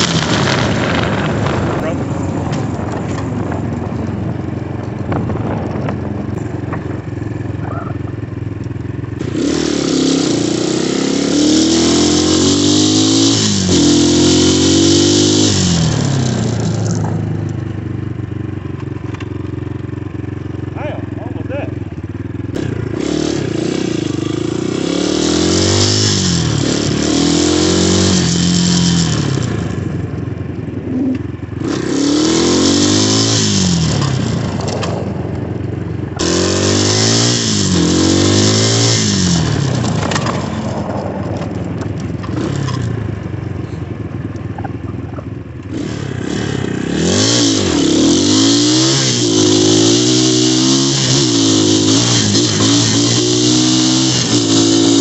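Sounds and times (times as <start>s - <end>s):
dirt bike engine revving: 0.0s - 17.8s, 18.4s - 55.0s.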